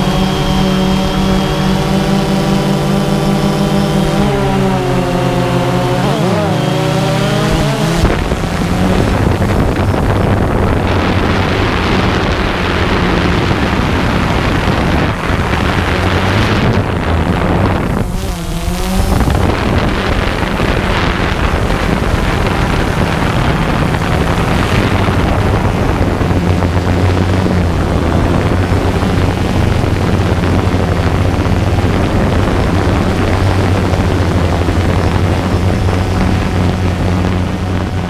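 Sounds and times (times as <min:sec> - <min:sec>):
drone propellers humming: 0:00.0 - 0:38.0
wind on microphone: 0:00.0 - 0:38.0.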